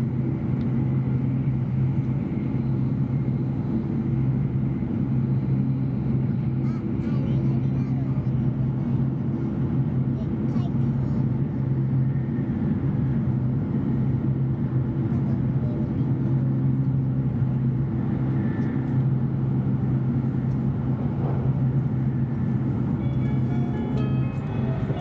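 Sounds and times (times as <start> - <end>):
constant low hum: 0.0 - 25.0
train running rumble: 0.0 - 25.0.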